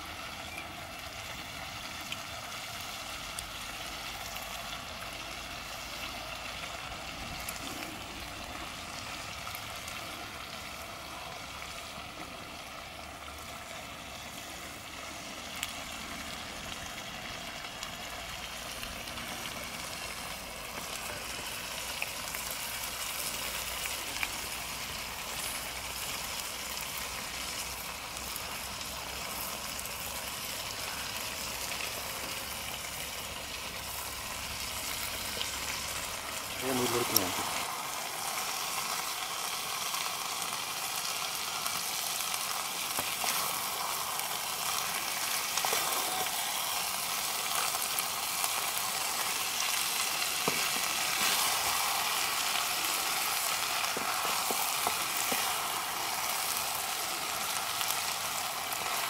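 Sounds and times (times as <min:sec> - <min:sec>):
curry hissing in a pan: 0:00.0 - 0:59.0.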